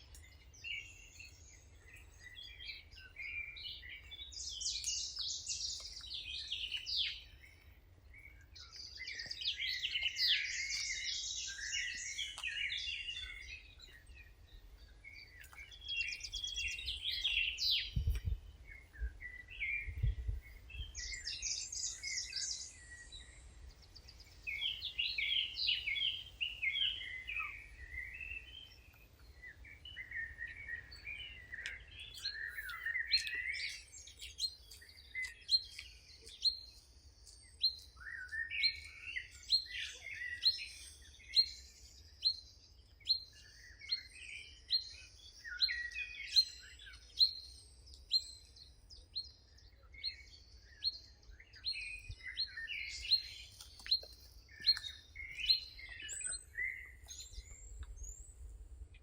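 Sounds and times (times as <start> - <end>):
birds chirping and warbling: 0.0 - 59.0.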